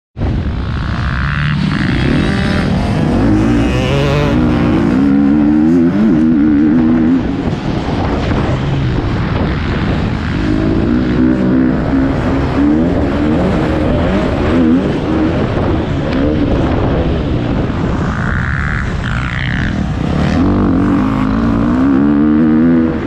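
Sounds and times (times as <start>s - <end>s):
motocross bike engine revving: 0.2s - 23.0s.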